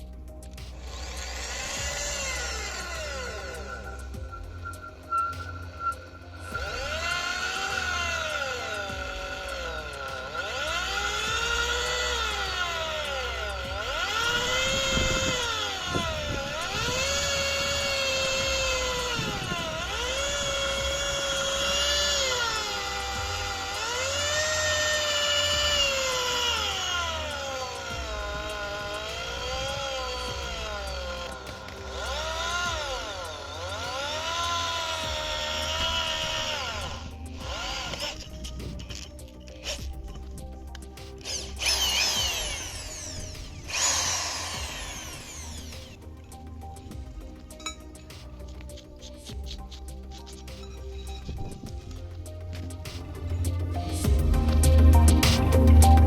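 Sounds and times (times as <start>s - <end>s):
impact drill motor whining: 0.7s - 48.6s.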